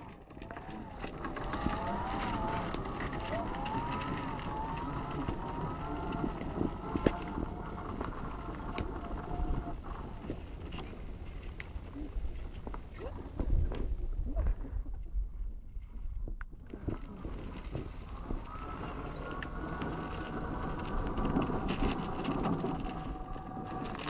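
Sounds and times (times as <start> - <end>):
electric motor whining: 0.0 - 12.8, 16.7 - 24.0
wind rumbling on microphone: 0.0 - 24.0.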